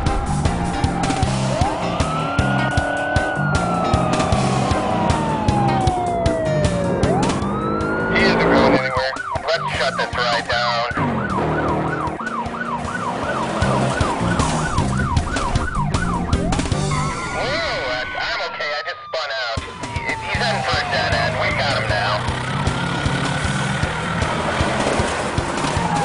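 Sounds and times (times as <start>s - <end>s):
police siren wailing and yelping: 0.0s - 22.8s, 25.2s - 26.0s.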